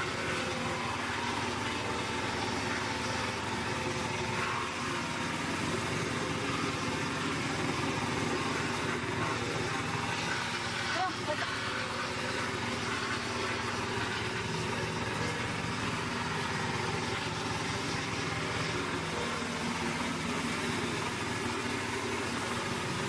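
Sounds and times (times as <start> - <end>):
wood chipper diesel engine running: 0.0 - 23.0.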